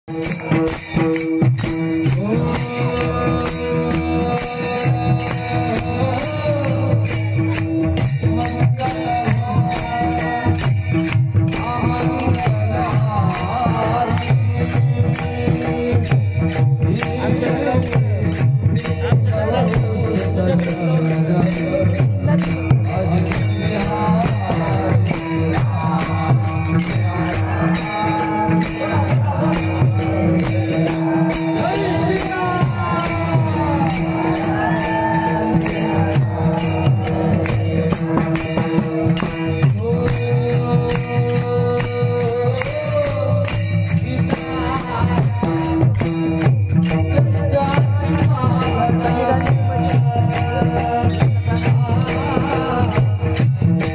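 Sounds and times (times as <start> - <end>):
fast percussion with jingles: 0.0 - 53.9
person singing: 2.0 - 53.9.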